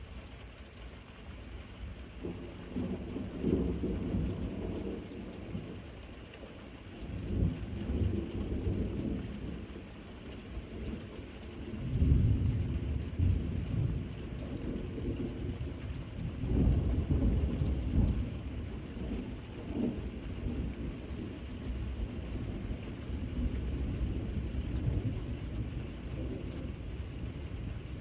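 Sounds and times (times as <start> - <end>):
steady rain: 0.0 - 28.0
thunder rumbling: 2.2 - 5.9, 7.0 - 28.0.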